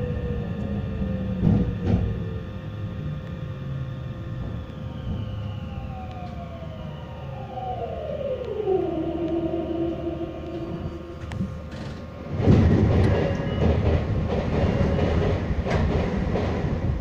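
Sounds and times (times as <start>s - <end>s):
electric train motors whining: 0.0s - 16.9s
low running rumble: 0.0s - 17.0s.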